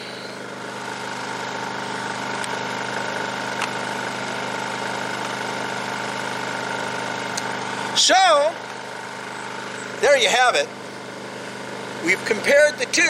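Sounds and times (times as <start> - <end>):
generator humming: 0.0 - 13.0.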